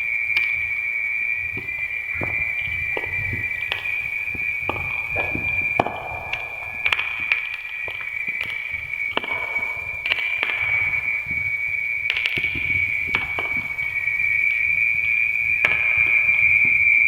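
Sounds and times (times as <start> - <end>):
wood fire crackling: 0.0 - 17.0
high-pitched whine: 1.5 - 17.0.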